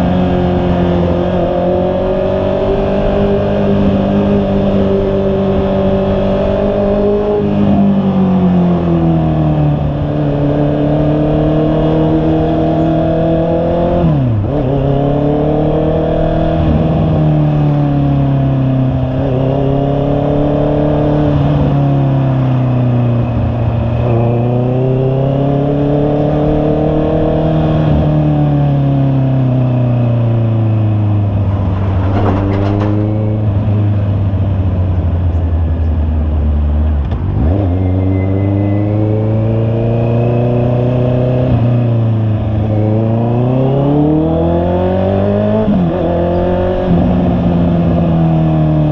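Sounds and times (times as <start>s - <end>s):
motorcycle engine under way: 0.0s - 48.9s.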